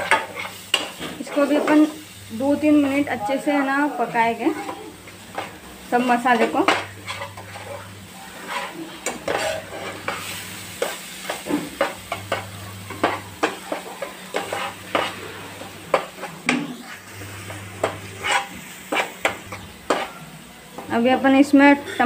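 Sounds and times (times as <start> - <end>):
paste sizzling in oil: 0.0 - 22.0
spoon scraping a pan: 0.0 - 22.0.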